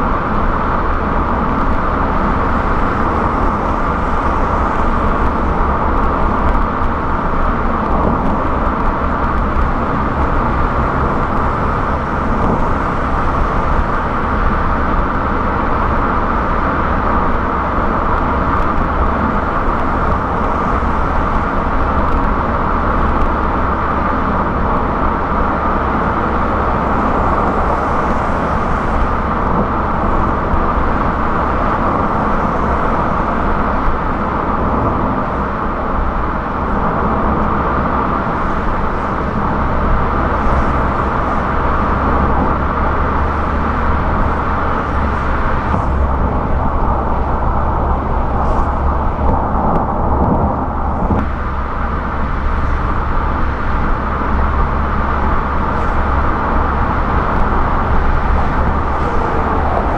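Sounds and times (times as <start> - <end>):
car engine noise: 0.0 - 59.9
tyres rumbling on road: 0.0 - 59.9.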